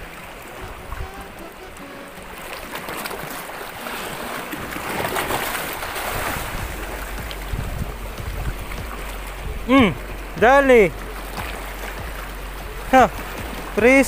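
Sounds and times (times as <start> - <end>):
wind rumble on microphone: 0.0 - 2.0, 4.0 - 14.0
waves splashing on rocks: 0.0 - 14.0.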